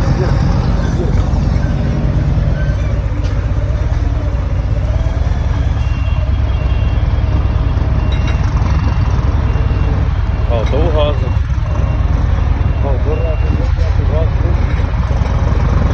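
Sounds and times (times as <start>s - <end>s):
diesel truck engine running: 0.0s - 15.9s.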